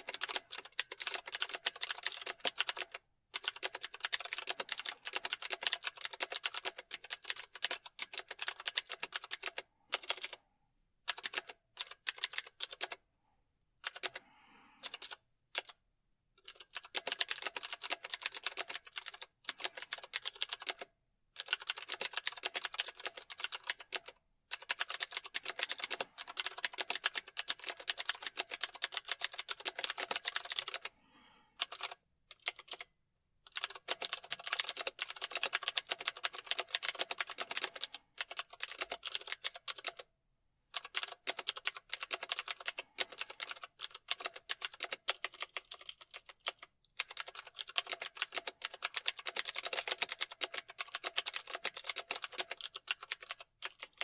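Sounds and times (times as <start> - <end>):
typing on computer keyboard: 0.0 - 10.4, 11.1 - 13.0, 13.8 - 14.2, 14.8 - 15.8, 16.4 - 30.9, 31.6 - 32.9, 33.5 - 40.1, 40.7 - 54.0.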